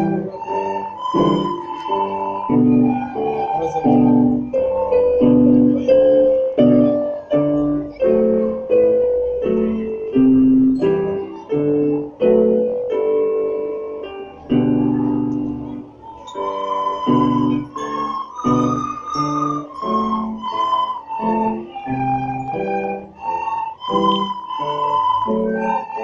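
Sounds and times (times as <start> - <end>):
electronic keyboard piano chords: 0.0 - 26.0.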